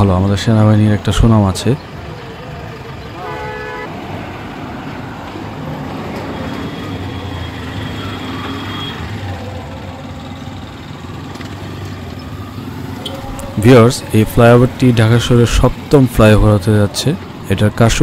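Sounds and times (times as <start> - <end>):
road traffic rumble: 0.0 - 18.0
vehicle engine humming: 0.0 - 18.0.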